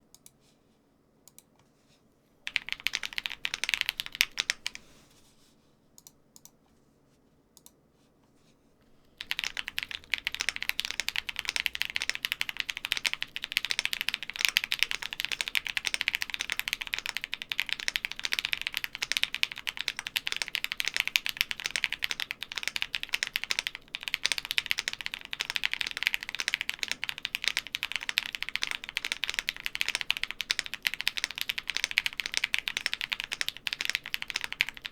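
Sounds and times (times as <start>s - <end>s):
mechanical keyboard typing: 2.5s - 4.8s, 9.2s - 34.9s.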